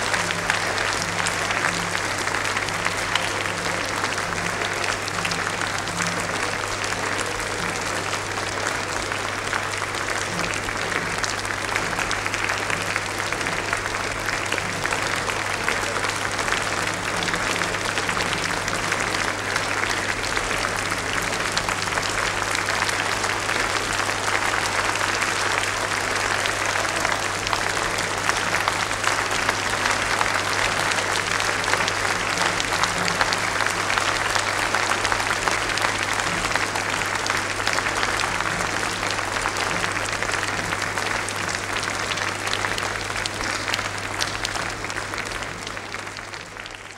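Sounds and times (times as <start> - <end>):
audience applauding: 0.0 - 46.9.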